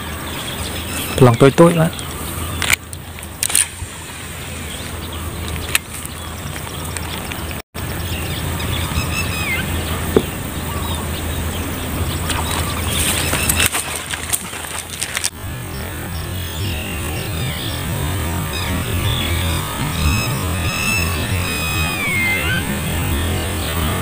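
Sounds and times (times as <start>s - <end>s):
bird chirp: 0.0s - 3.2s, 3.8s - 24.0s
outdoor background noise: 0.0s - 24.0s.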